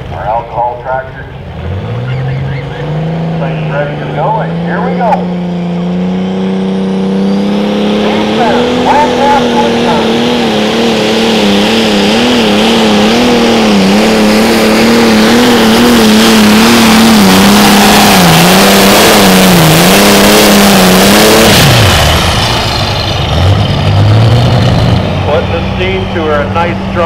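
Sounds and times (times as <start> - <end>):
high whine: 0.0 - 27.0.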